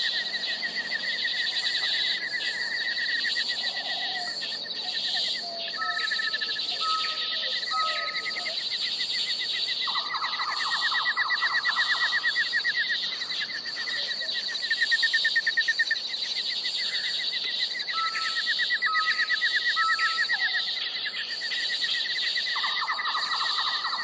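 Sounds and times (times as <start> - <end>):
birds calling: 0.0 - 24.0
insects trilling: 0.0 - 24.0.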